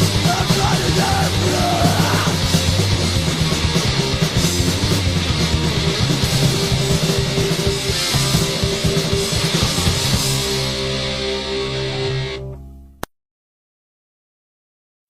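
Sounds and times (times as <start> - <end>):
punk band playing: 0.0 - 12.4.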